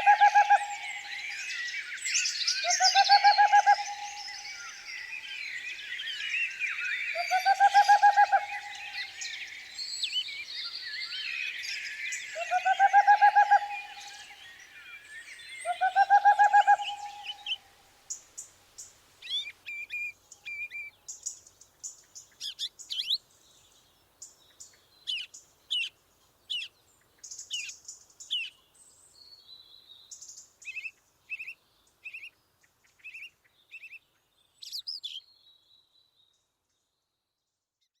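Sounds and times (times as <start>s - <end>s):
wild birds singing: 0.0s - 37.2s.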